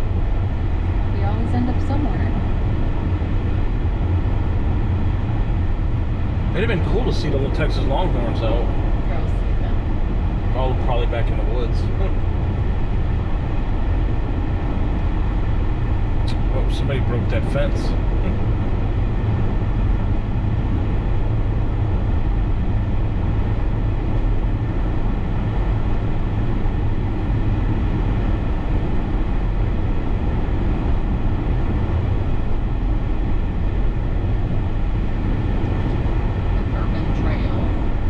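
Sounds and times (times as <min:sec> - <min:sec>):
car cabin road noise: 0:00.0 - 0:38.0.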